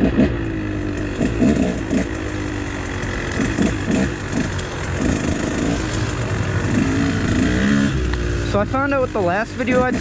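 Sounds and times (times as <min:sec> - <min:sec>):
dirt bike engine blips: 0:00.0 - 0:10.0.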